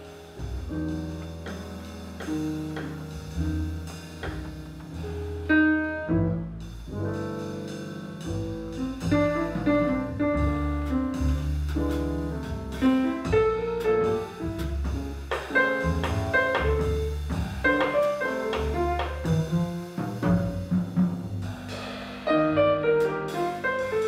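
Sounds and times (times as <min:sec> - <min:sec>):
drum kit: 0:00.0 - 0:24.0
piano: 0:00.0 - 0:24.0
pizzicato double bass: 0:00.0 - 0:24.0.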